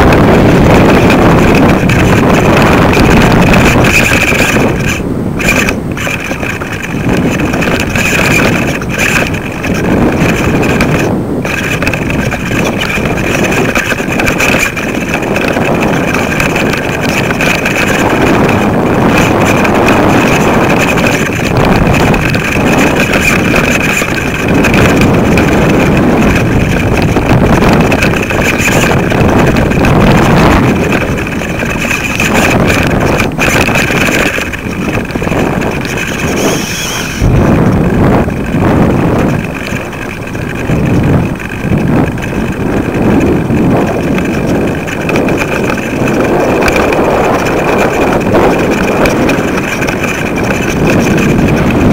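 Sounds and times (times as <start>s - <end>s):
steady high whine: 0.0s - 51.9s
wind buffeting microphone: 0.0s - 51.9s.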